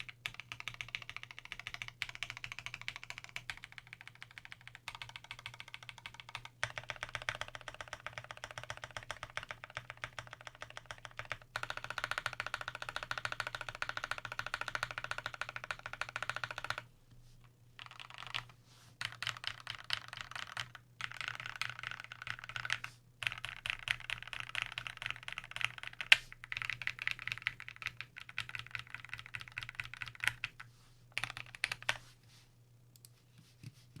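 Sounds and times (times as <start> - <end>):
mechanical keyboard typing: 0.0 - 16.8, 17.8 - 30.6, 31.2 - 32.0.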